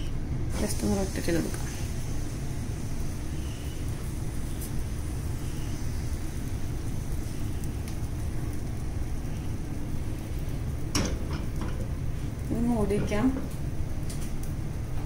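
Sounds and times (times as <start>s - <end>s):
faint hiss: 0.0s - 15.0s
steady low rumble: 0.0s - 15.0s.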